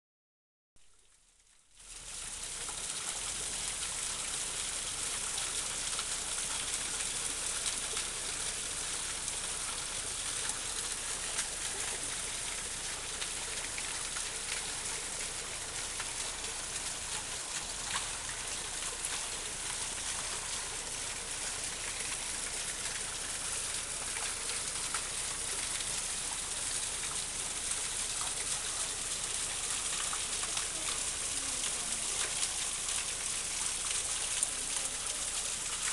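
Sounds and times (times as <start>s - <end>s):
waterfall rushing and splashing: 2.6s - 35.9s.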